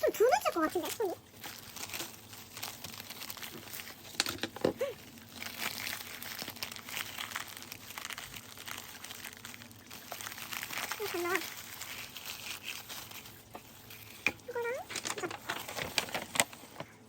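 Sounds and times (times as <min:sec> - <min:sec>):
plastic gloves crinkling: 0:00.0 - 0:17.0.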